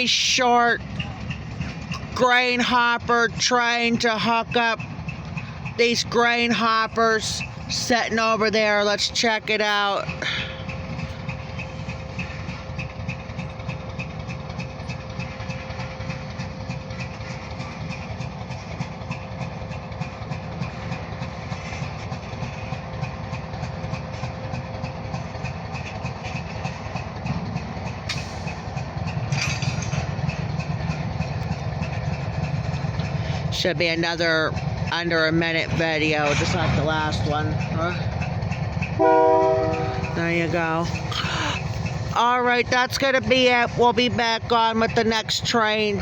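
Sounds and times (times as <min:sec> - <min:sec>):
diesel locomotive engine rumble: 0:00.0 - 0:46.0.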